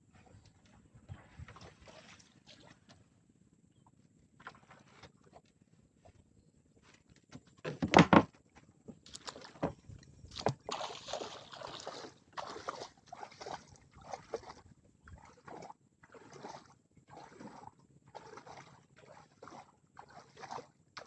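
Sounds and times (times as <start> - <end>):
water sloshing: 0.1 - 3.1, 4.4 - 6.2, 8.9 - 21.0.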